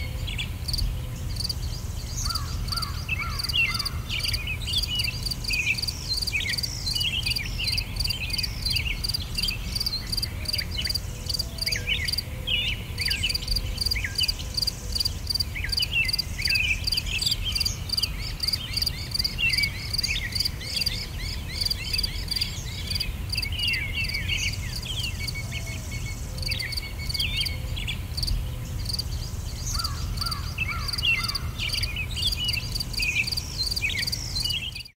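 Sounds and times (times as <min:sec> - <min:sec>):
birds chirping and calling: 0:00.0 - 0:34.9
insects chorus: 0:00.0 - 0:34.9.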